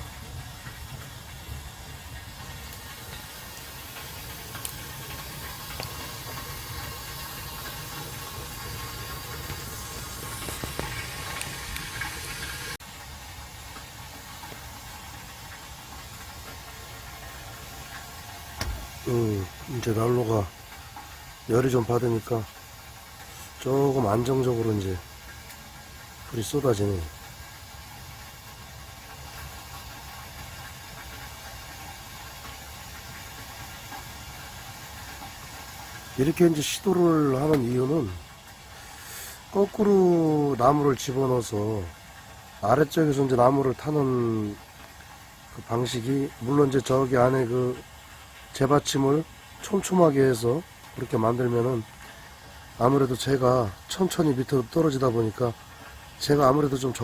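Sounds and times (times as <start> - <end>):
wood crackling: 0.0 - 27.8, 29.2 - 57.0
stove draft rushing: 0.0 - 57.0.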